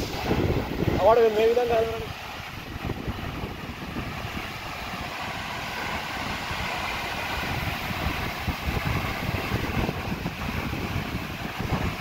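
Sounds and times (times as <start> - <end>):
waterfall rushing into pool: 0.0 - 12.0
wind buffeting microphone: 0.0 - 12.0.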